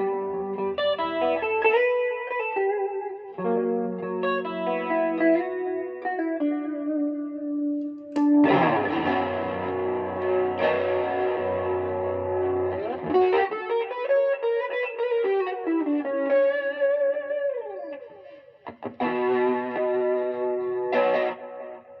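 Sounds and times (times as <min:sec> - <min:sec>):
electric guitar through an amp: 0:00.0 - 0:22.0.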